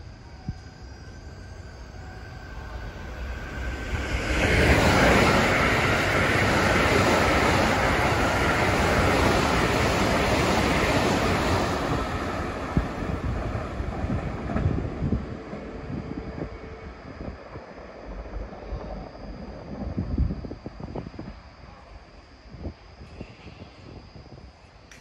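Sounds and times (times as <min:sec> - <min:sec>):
train rushing through station: 0:00.0 - 0:25.0.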